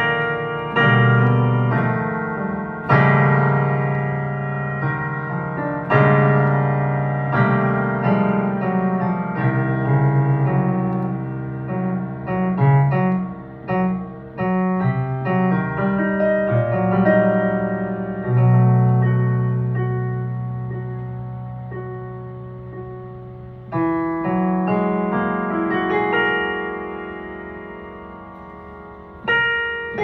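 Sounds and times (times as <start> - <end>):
solo piano playing: 0.0 - 30.0.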